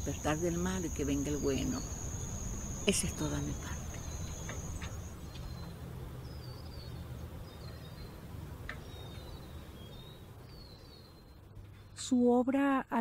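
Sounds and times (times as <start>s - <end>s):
bird chirps: 0.0s - 12.1s.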